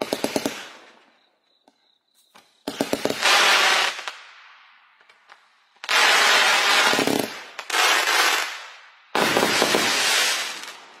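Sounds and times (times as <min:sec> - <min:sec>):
fireworks bursting with crackling: 0:00.0 - 0:01.0, 0:02.5 - 0:11.0.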